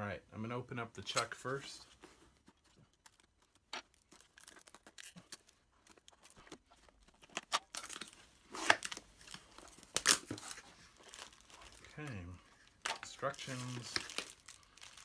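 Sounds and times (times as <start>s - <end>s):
packaging rustling and ripping: 2.4s - 15.0s.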